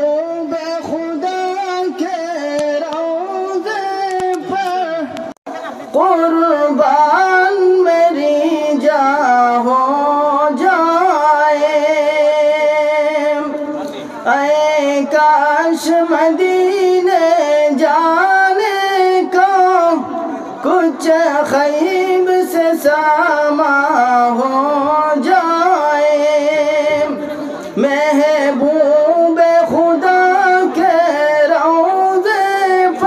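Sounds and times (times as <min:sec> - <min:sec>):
man singing devotional song: 0:00.0 - 0:33.0.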